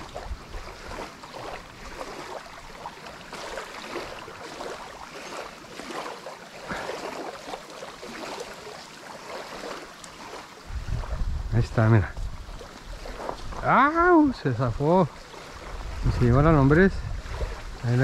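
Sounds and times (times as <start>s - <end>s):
small waves lapping on gravel: 0.0s - 18.0s.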